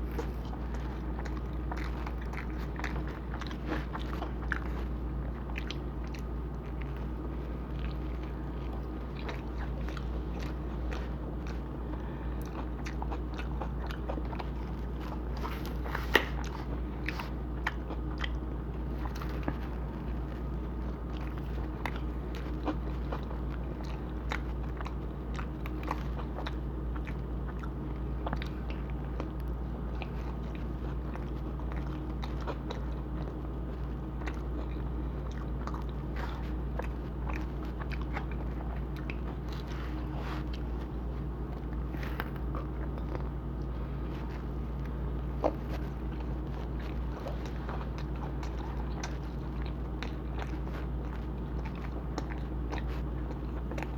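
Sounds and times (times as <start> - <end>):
biting and chewing pizza: 0.0 - 53.9
steady low hum: 0.0 - 53.9.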